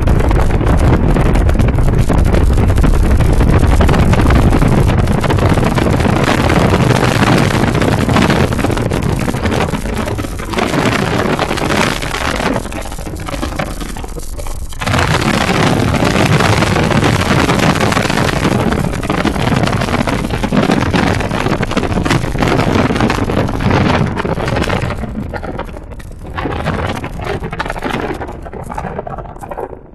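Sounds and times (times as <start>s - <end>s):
wind rushing over microphone: 0.0s - 29.9s.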